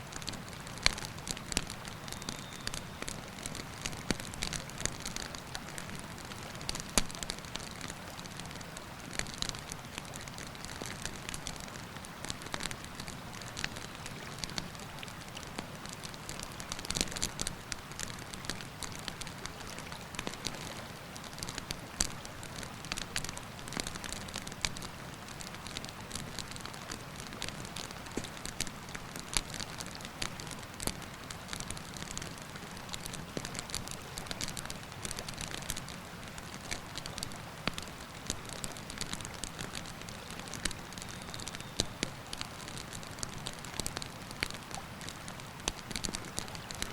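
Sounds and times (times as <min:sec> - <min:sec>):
campfire crackling and popping: 0:00.1 - 0:46.9.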